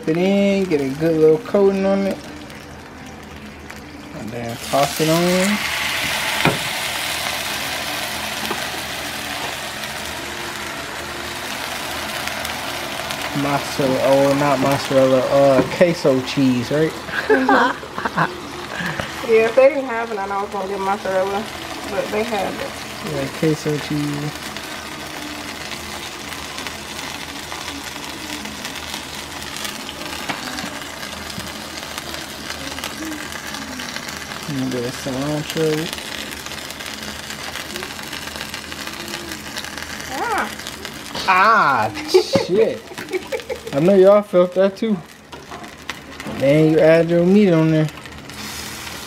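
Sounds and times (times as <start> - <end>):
tortilla sizzling in a frying pan: 0.0 - 49.0.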